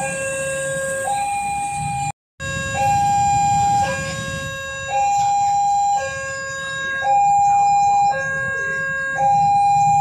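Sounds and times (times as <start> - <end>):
level crossing two-tone alarm: 0.0 - 10.0.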